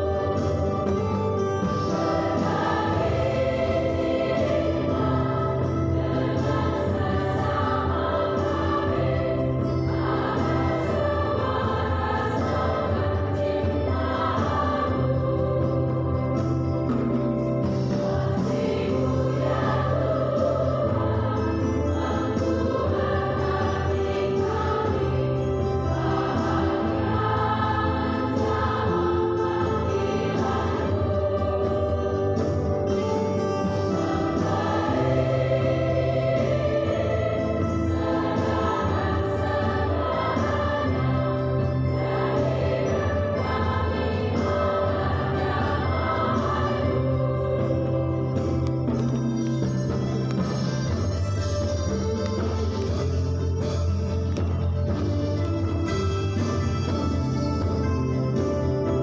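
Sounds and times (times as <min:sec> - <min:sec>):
choir singing sustained chords: 0:00.0 - 0:50.6.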